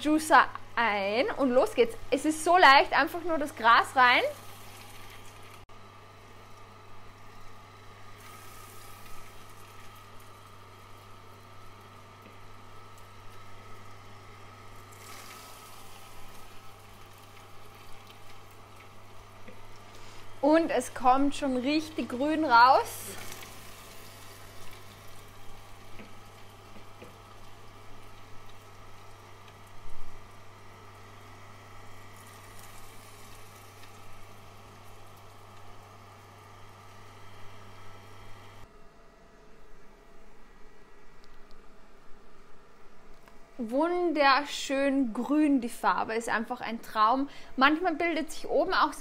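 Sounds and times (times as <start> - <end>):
juicer motor hum: 0.0 - 44.2.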